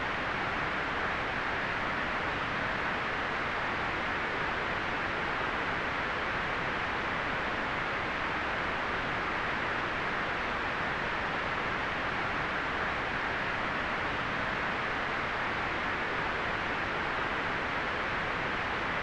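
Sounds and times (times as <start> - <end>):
white noise hiss: 0.0 - 19.0.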